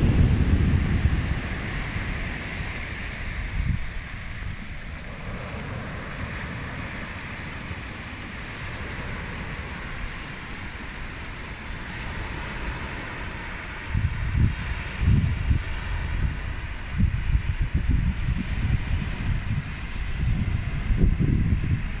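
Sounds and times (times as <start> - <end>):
small surf breaking on beach: 0.0 - 22.0
water streaming over pebbles: 0.0 - 22.0
wind buffeting microphone: 0.0 - 22.0.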